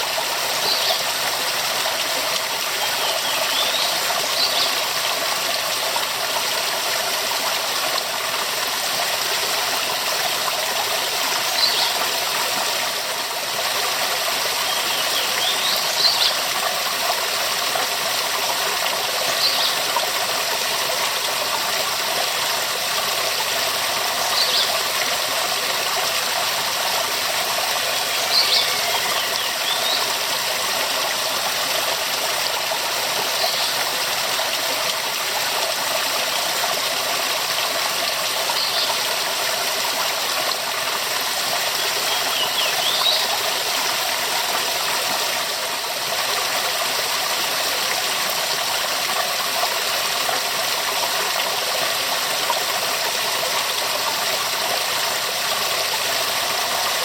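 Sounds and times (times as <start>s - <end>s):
waterfall pouring: 0.0s - 57.0s.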